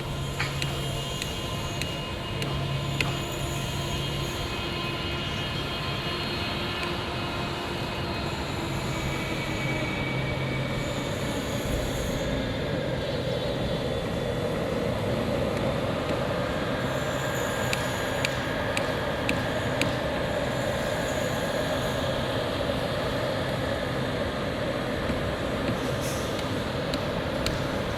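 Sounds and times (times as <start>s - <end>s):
jet engines running: 0.0s - 27.9s.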